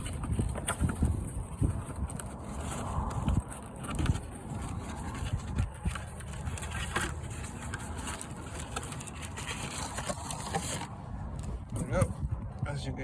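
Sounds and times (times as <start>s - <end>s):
cardboard and plastic crinkling: 0.0s - 11.0s.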